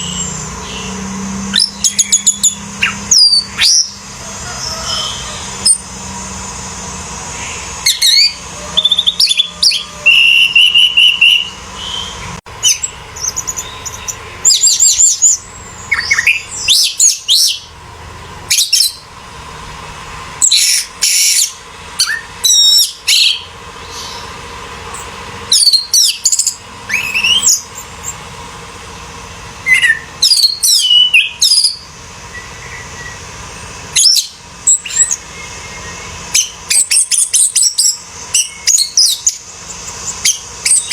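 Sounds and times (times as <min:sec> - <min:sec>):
thrush singing whistled phrases: 0:00.0 - 0:06.1, 0:07.4 - 0:17.8, 0:20.4 - 0:24.4, 0:25.5 - 0:28.1, 0:29.6 - 0:40.9.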